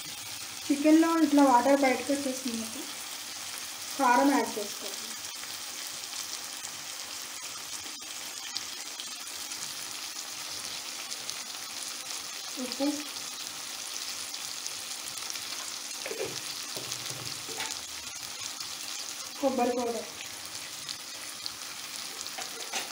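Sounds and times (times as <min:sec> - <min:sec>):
chicken sizzling in oil: 0:00.0 - 0:22.9.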